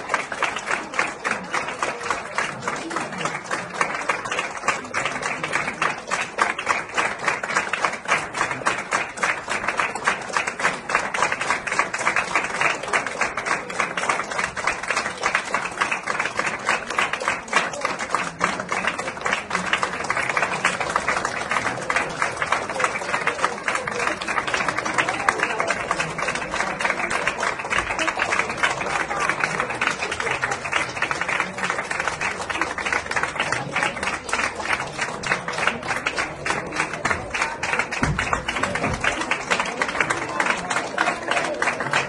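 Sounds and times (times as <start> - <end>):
crowd applauding: 0.0 - 42.0.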